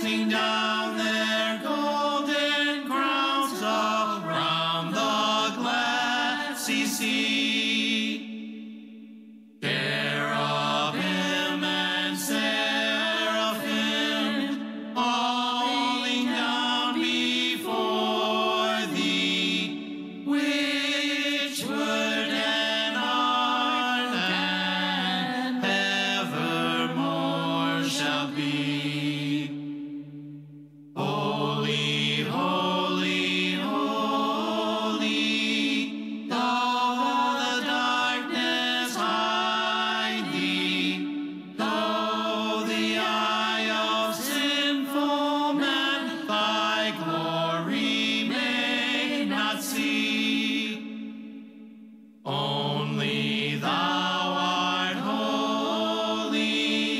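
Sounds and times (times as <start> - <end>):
voices singing worship song: 0.0 - 56.9.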